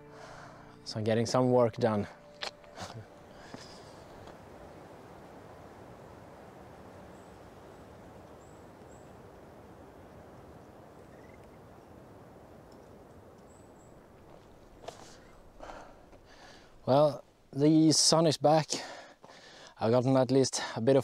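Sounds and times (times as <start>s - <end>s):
faint low background rush: 0.0s - 21.0s.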